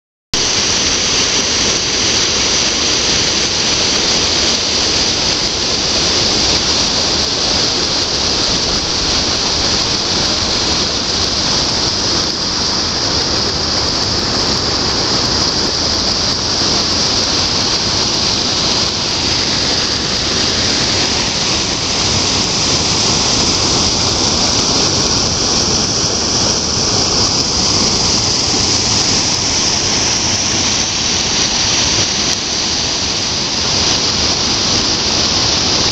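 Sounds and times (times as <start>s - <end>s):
waterfall rushing: 0.4s - 35.9s.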